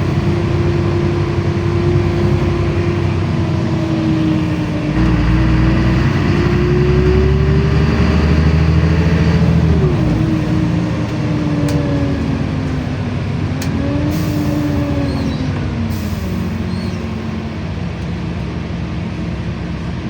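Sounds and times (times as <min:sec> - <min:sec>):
bus engine rumble: 0:00.0 - 0:20.0
engine whine: 0:00.0 - 0:20.0.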